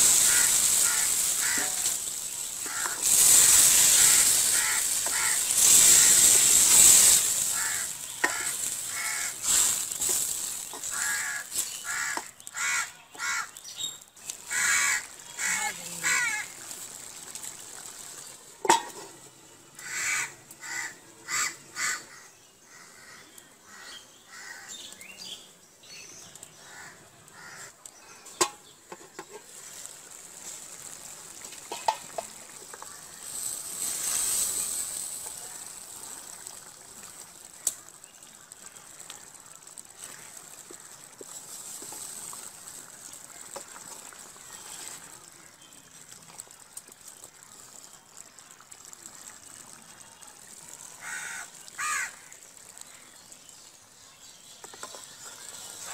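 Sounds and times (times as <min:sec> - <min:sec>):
curry simmering hiss: 0:00.0 - 0:55.9.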